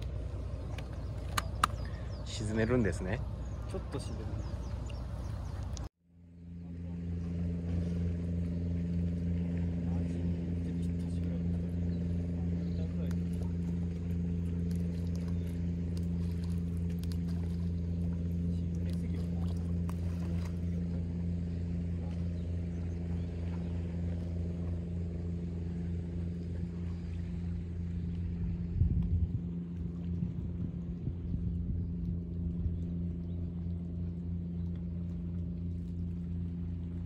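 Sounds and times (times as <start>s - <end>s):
boat engine idling: 0.0s - 37.0s.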